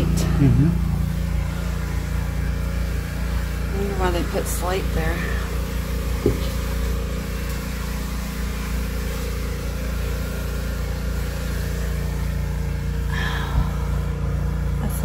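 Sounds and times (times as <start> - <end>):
motor droning: 0.0 - 15.0.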